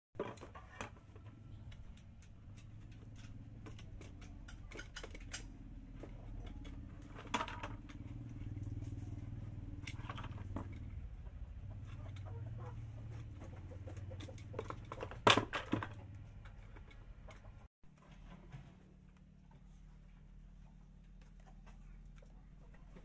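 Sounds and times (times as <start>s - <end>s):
low motor hum: 0.9s - 23.0s.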